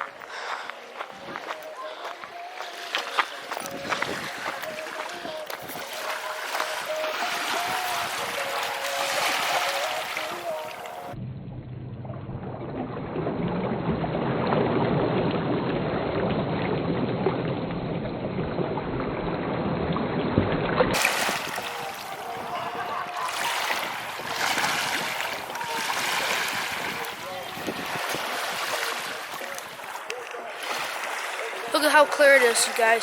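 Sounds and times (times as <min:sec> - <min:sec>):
rushing wind and water: 0:00.0 - 0:11.2, 0:12.8 - 0:33.0.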